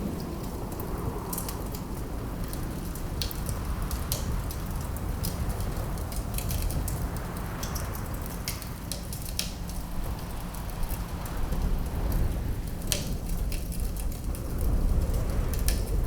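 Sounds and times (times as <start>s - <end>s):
low rumble of wind: 0.0s - 16.0s
wood fire crackling: 0.0s - 16.0s.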